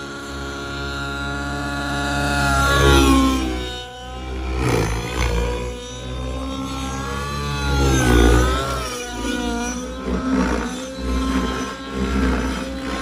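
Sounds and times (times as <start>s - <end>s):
model helicopter engine and rotor: 0.0s - 13.0s.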